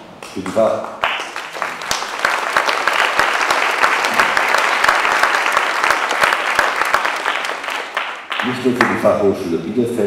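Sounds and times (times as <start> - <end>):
audience applauding: 0.2 - 9.0.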